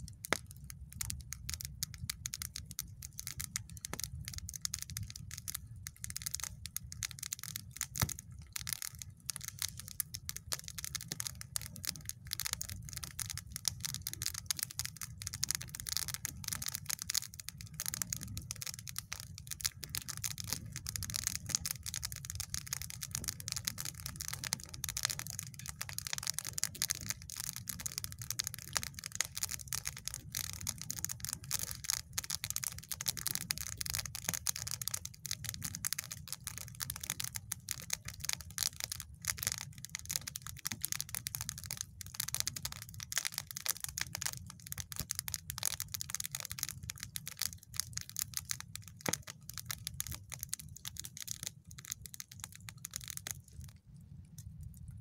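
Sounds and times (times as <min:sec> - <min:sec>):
campfire crackling and popping: 0:00.0 - 0:55.0
low fire rumble: 0:00.0 - 0:55.0.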